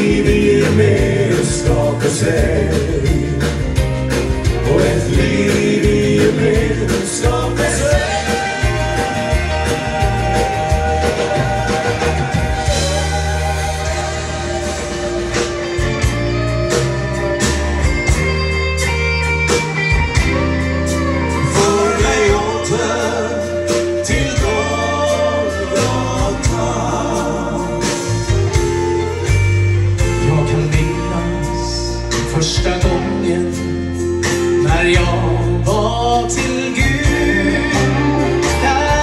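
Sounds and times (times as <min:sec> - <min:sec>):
instrumental gospel band music: 0:00.0 - 0:39.0.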